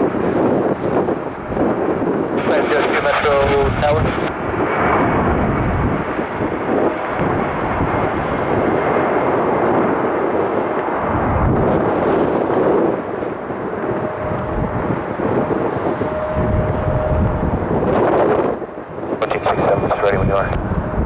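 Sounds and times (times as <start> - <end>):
jet engines rumbling: 0.0 - 21.0
wind buffeting microphone: 0.0 - 21.0.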